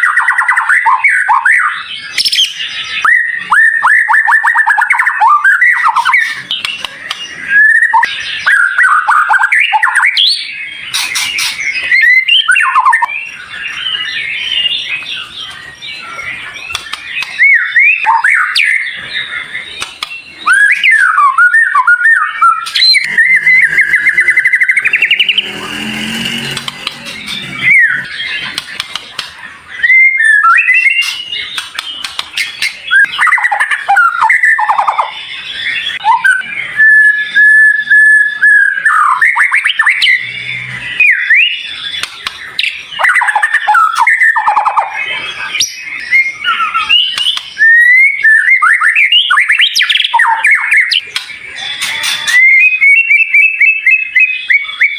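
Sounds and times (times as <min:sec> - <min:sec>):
recorded songbird song: 0:00.0 - 0:25.2, 0:27.4 - 0:54.9.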